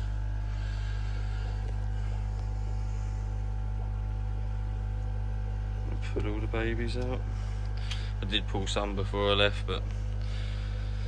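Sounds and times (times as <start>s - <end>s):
aquarium equipment hum: 0.0s - 11.0s.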